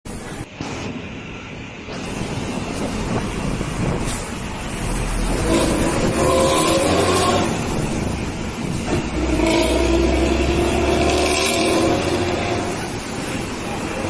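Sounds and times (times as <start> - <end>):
buses passing with shrill exhaust: 0.1 - 14.0.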